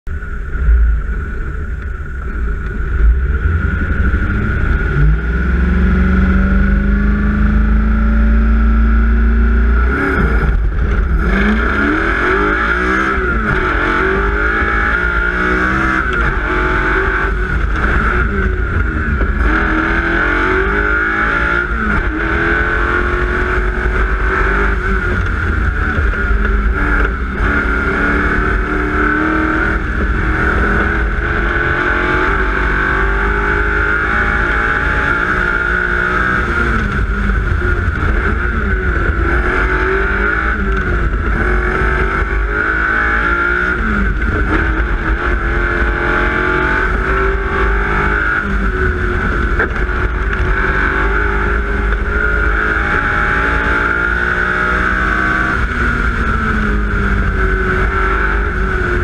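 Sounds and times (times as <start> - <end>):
car engine revving: 0.1 - 59.0
tyre and wind rumble: 0.1 - 59.0.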